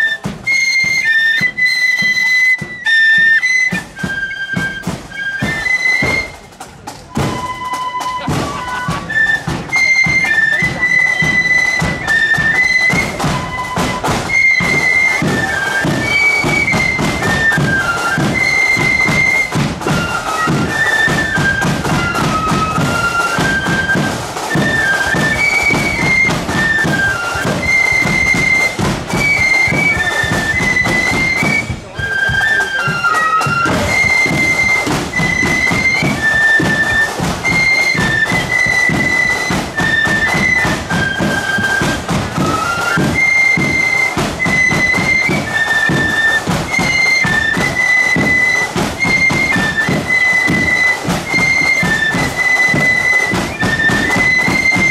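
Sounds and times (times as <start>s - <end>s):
drums beating time: 0.0s - 54.9s
marching flute band melody: 0.0s - 54.9s.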